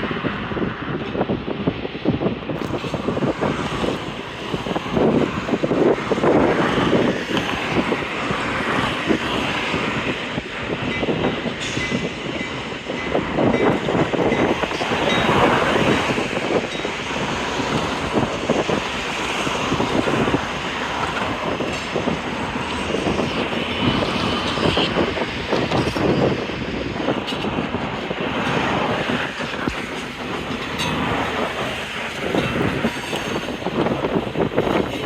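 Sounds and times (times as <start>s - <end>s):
train wheels clattering on rails: 0.1s - 35.0s
freight cars rattling: 2.2s - 35.0s.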